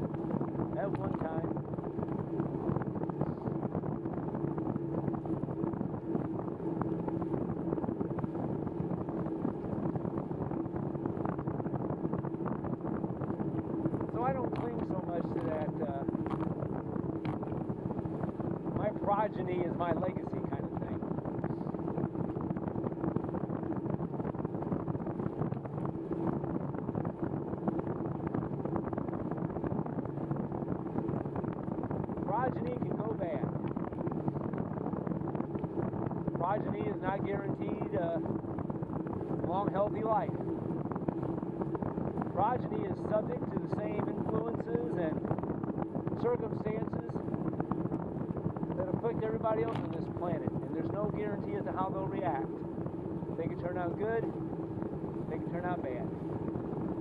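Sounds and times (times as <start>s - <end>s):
steady low hum: 0.0s - 57.0s
wind rush on microphone: 0.0s - 57.0s.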